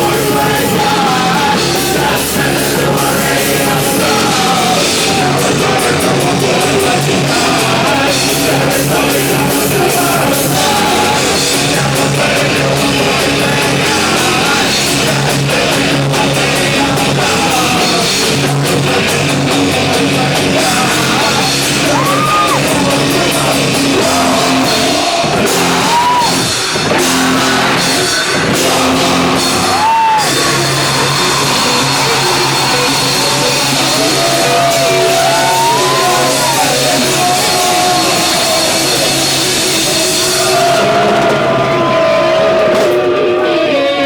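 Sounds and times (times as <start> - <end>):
live rock band playing: 0.0 - 44.0
yelled sung vocals: 0.0 - 44.0.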